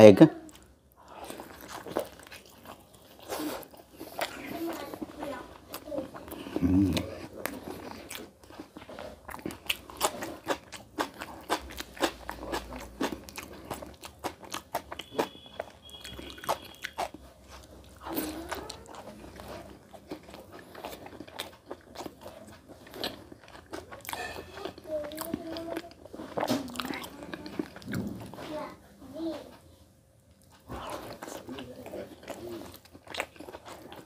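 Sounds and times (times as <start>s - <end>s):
person chewing with wet smacks: 0.4s - 28.5s, 30.3s - 34.0s.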